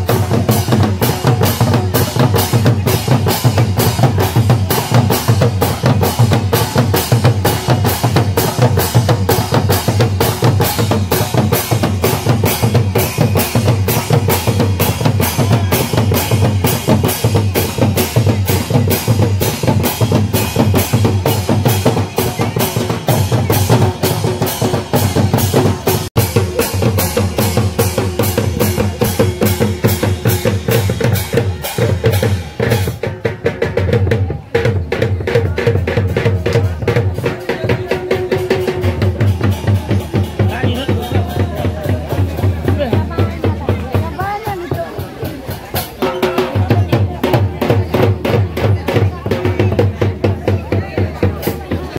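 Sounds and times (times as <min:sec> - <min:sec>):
hand drums playing fast: 0:00.0 - 0:51.9.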